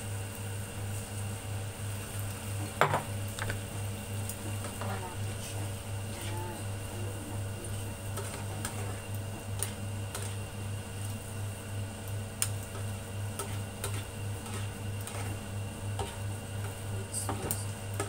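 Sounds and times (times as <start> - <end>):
cooktop pulsing hum: 0.0 - 18.0.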